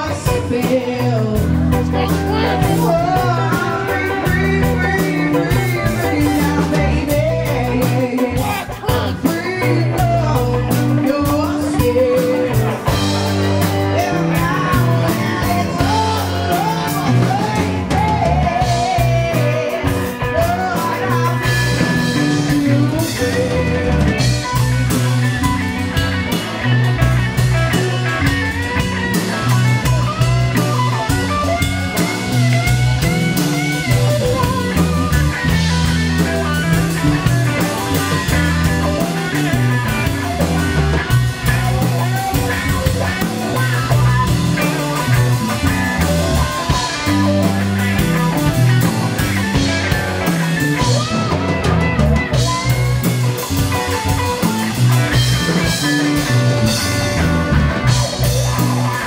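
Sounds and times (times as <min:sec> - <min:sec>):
blues band playing: 0:00.0 - 0:59.0
drum kit: 0:00.0 - 0:59.0
electric guitar lead with bends: 0:00.0 - 0:59.0.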